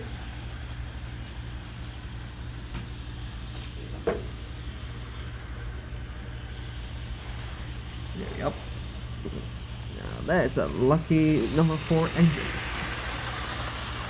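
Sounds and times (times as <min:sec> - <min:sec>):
model train motor hum: 0:00.0 - 0:14.0.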